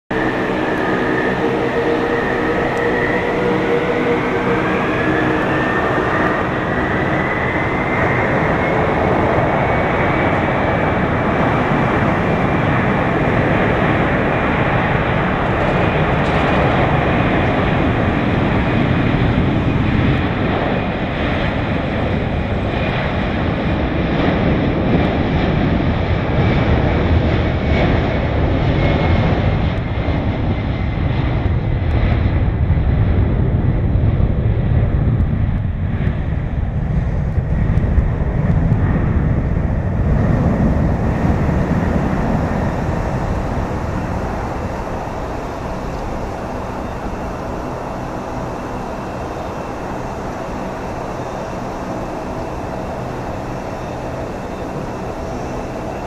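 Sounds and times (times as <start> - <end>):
jet engines spooling up: 0.1 - 56.0.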